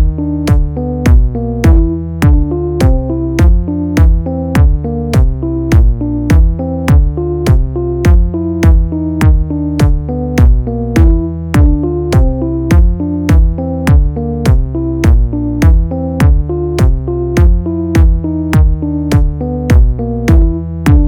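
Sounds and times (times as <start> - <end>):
booming kick drums: 0.0 - 21.0
held synth chords: 0.0 - 21.0.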